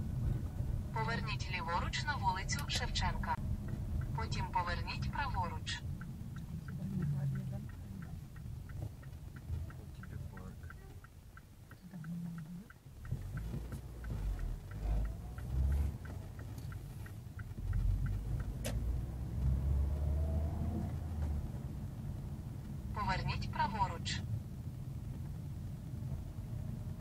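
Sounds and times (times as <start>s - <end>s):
engine and road rumble: 0.0s - 27.0s
turn signal ticking: 0.0s - 27.0s.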